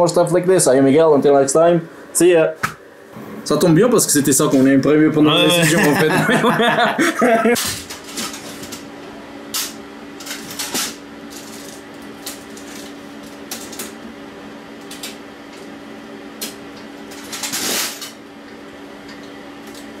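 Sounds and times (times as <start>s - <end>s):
room ambience hum: 0.0s - 20.0s.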